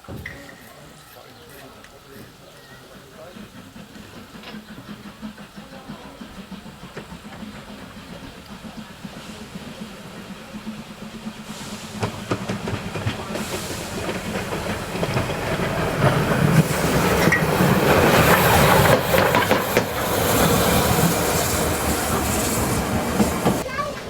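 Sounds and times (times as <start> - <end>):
steam hissing: 0.0 - 24.0
train wheels clicking over rail joints: 0.0 - 24.0.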